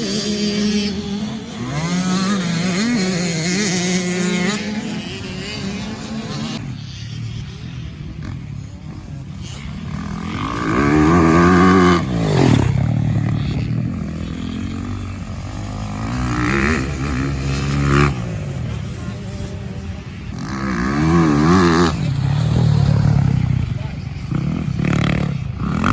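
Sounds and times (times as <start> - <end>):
dirt bikes revving past: 0.0 - 25.9.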